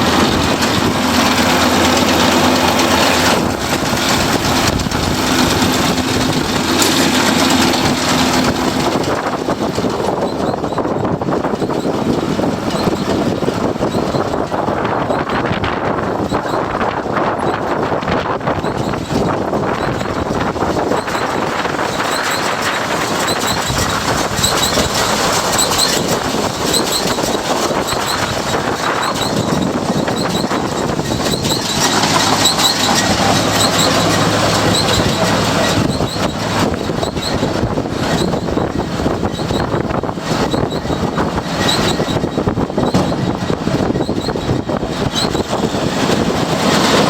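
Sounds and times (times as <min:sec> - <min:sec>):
steady engine note: 0:00.0 - 0:13.9, 0:18.8 - 0:44.8
baler mechanism clattering: 0:00.0 - 0:47.0.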